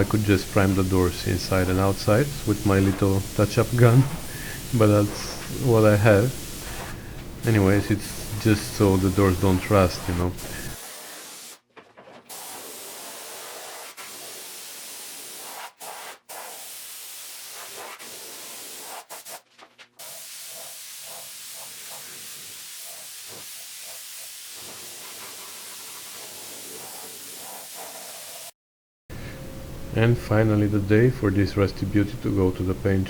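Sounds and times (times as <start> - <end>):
spray gun hissing: 0.0 - 11.6, 12.3 - 19.4, 20.0 - 28.5.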